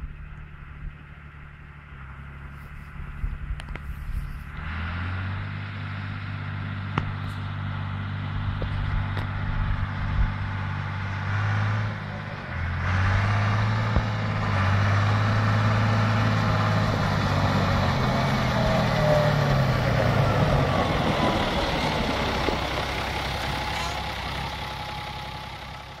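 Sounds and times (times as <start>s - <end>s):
tractor diesel engine passing: 0.0s - 26.0s.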